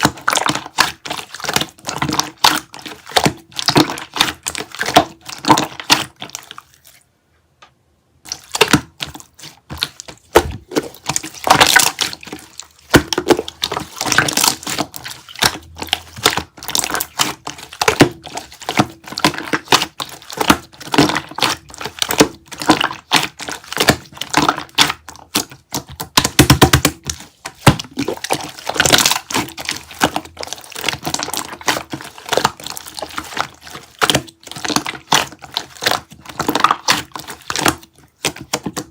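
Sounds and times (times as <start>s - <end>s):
slime being squished by hand: 0.0s - 7.0s, 8.2s - 38.9s.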